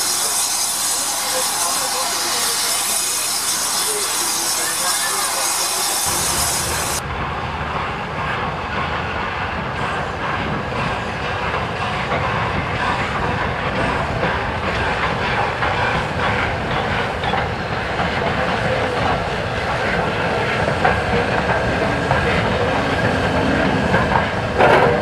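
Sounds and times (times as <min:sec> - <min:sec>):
steam hissing: 0:00.0 - 0:07.0, 0:08.5 - 0:25.0
train wheels clattering over rail joints: 0:00.0 - 0:25.0.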